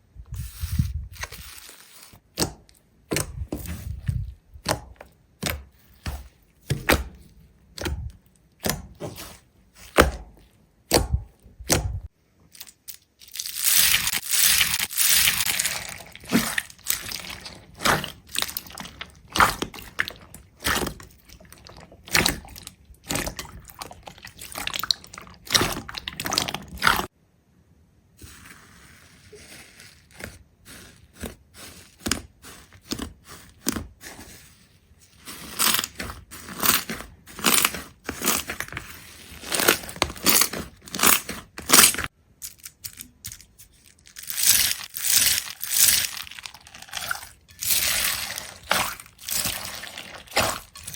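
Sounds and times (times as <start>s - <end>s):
crunching and crackling: 0.4s - 27.1s, 29.3s - 50.9s.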